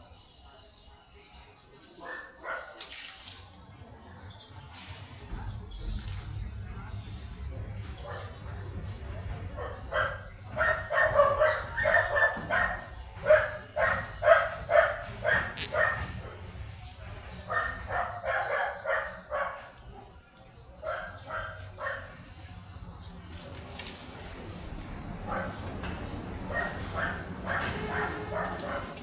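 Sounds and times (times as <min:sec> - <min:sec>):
dogs barking: 0:00.0 - 0:02.9, 0:05.3 - 0:29.0.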